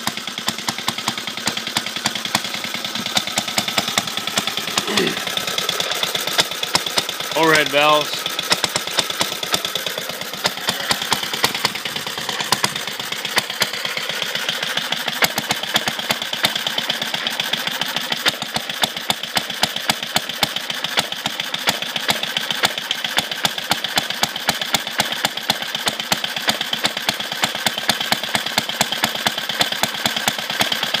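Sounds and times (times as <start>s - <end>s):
small engine idling: 0.0s - 31.0s.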